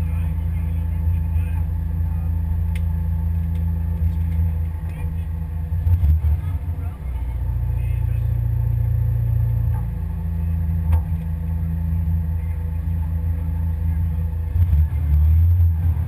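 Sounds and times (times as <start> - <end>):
truck engine low rumble: 0.0 - 16.0.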